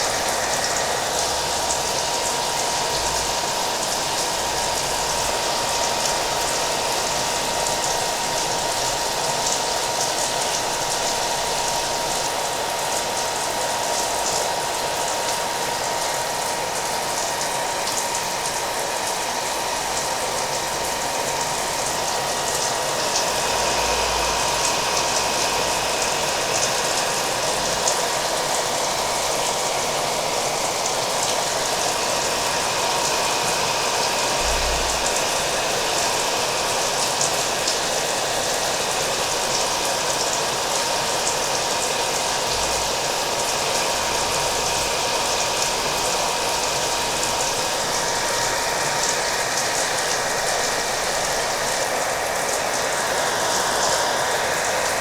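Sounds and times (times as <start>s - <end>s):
hair dryer running: 0.0s - 55.0s
rain falling: 0.0s - 55.0s.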